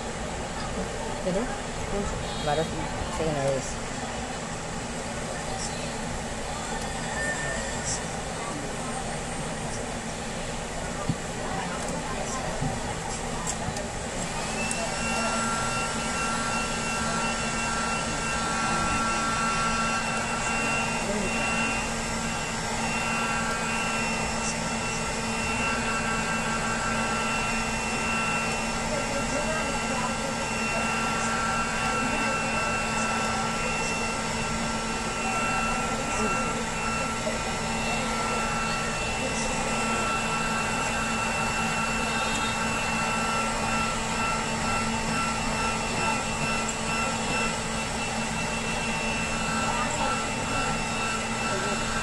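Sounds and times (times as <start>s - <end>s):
hot air gun fan whine: 0.0s - 52.0s.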